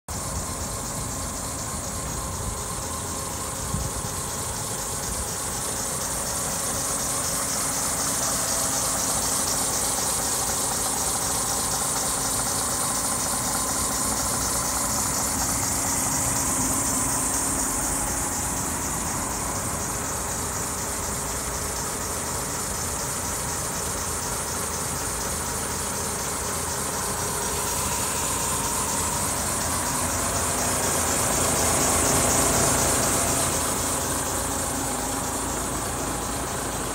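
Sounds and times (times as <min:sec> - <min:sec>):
diesel engine idling: 0:00.1 - 0:36.9
high hiss: 0:00.3 - 0:36.9.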